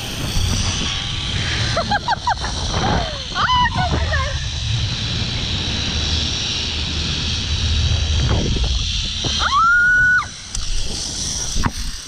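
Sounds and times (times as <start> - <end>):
high-pitched squeal: 0.0 - 12.0
wind rushing over microphone: 0.0 - 12.0
zipline trolley whirring on cable: 0.0 - 12.0.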